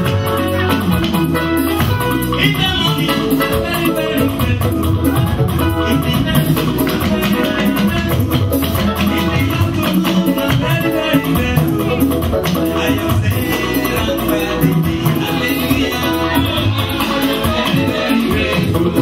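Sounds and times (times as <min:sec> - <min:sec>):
upbeat music with guitar and percussion: 0:00.0 - 0:19.0.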